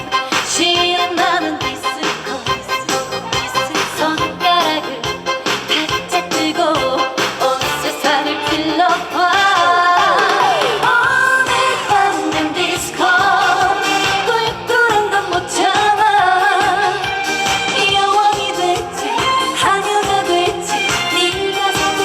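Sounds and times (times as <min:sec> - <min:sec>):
backing track with steady beat: 0:00.0 - 0:22.0
woman singing: 0:00.0 - 0:22.0.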